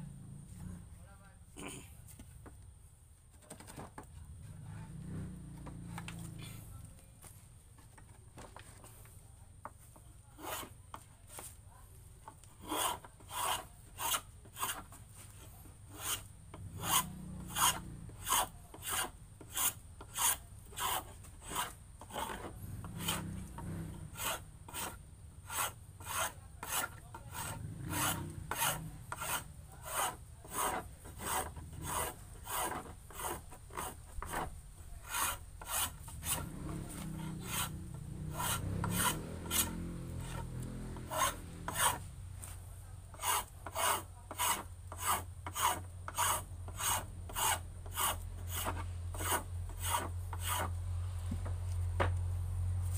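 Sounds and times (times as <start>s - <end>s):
hand tool scraping wood: 3.3s - 4.5s, 7.7s - 11.6s, 12.2s - 52.2s.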